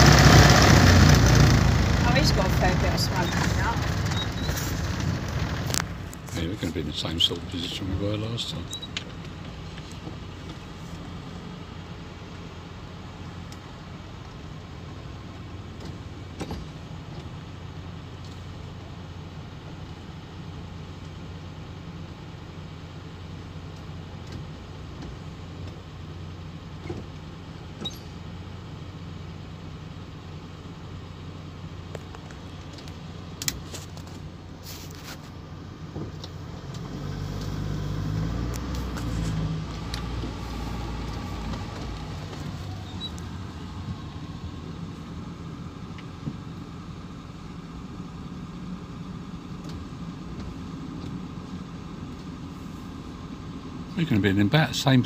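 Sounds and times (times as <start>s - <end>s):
engine low hum from cab: 0.0s - 55.0s.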